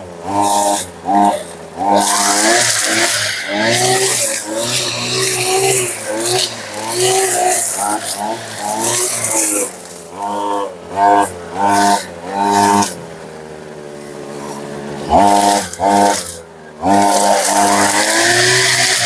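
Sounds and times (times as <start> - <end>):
brushcutter engine revving: 0.0 - 19.0
hiss of cut grass: 0.0 - 19.0.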